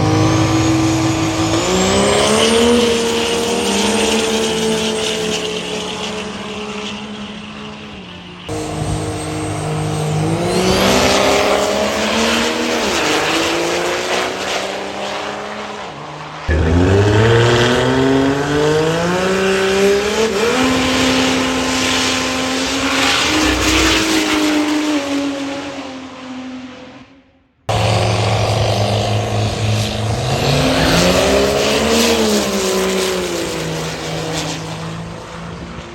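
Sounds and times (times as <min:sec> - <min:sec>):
diesel truck engines accelerating: 0:00.0 - 0:26.6, 0:27.7 - 0:35.9.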